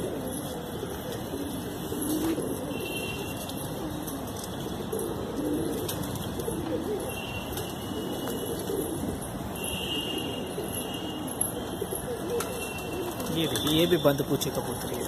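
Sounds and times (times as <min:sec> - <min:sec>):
pigeons cooing: 0:00.0 - 0:13.7.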